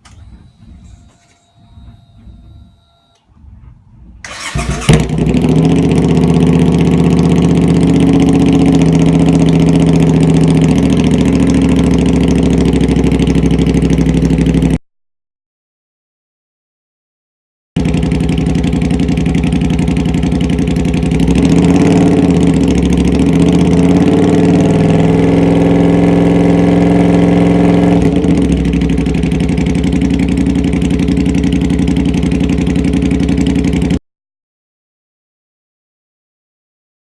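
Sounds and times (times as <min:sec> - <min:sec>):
motorcycle engine revving and idling: 0:00.0 - 0:14.8, 0:17.8 - 0:34.0.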